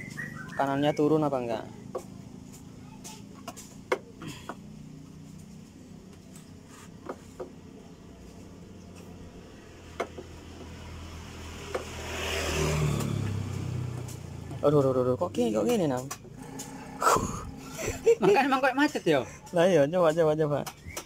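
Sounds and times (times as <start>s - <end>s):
vehicle engine rumble and hiss: 1.4s - 19.8s.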